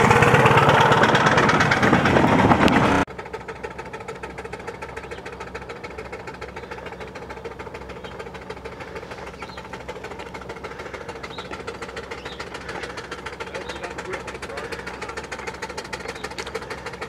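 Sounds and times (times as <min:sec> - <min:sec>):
steam engine exhaust beating: 0:00.0 - 0:17.0.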